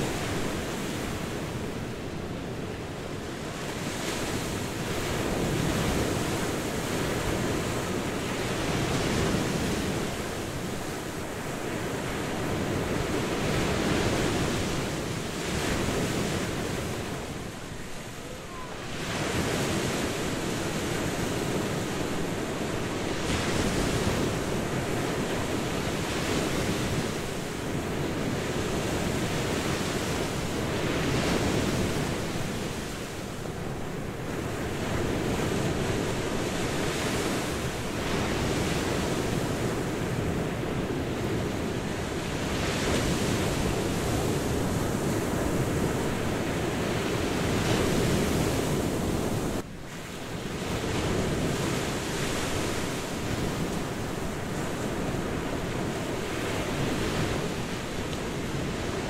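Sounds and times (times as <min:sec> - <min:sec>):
ocean surf breaking on beach: 0:00.0 - 0:59.0.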